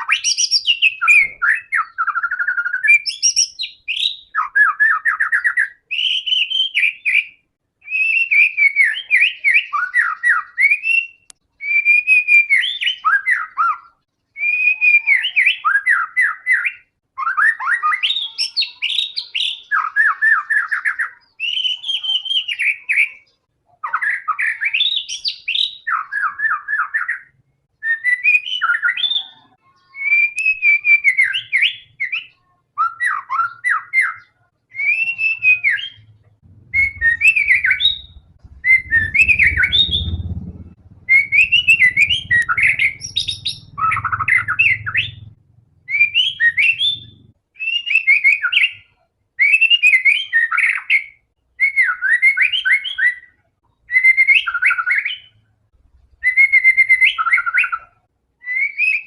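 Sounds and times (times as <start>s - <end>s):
songbird whistling and trilling: 0.0s - 55.4s, 56.2s - 59.0s.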